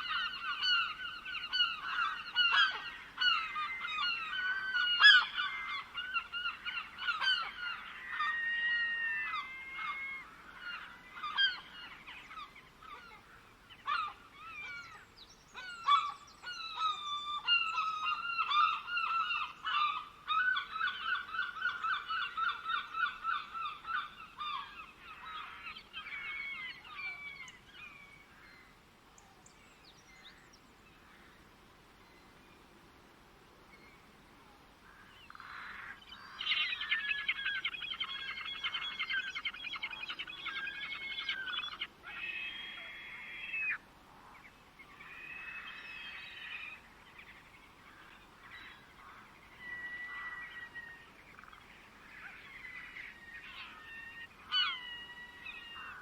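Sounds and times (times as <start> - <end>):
flock of birds calling: 0.0 - 28.8, 34.8 - 56.0.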